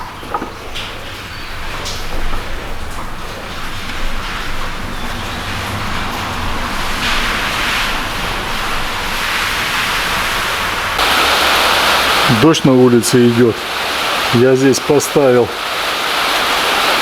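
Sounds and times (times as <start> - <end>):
steady rain hiss: 0.1 - 17.0.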